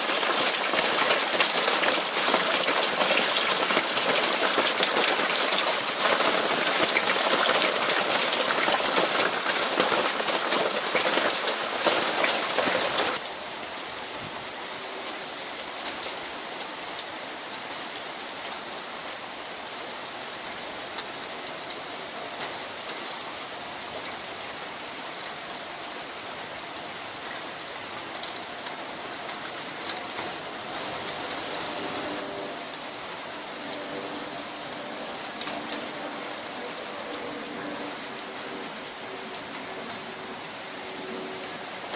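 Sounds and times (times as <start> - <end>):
raindrops ticking on surfaces: 0.0 - 13.8, 14.4 - 41.9
rain falling: 0.0 - 41.9.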